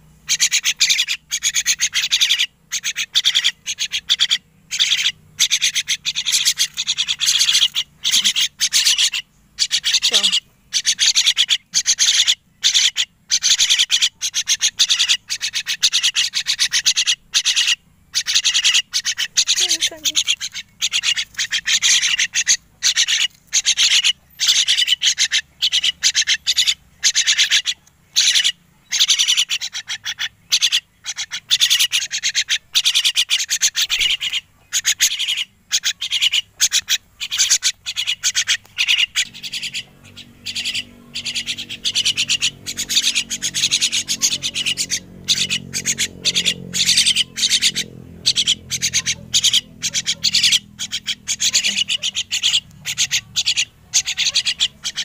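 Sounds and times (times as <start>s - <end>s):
birds calling in rapid bursts: 0.0s - 55.0s.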